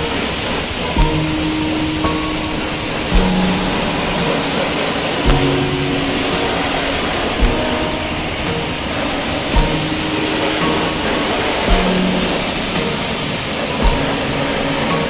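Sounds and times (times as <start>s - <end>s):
loud steady hiss: 0.0s - 15.0s
slow beat background music: 0.0s - 15.0s.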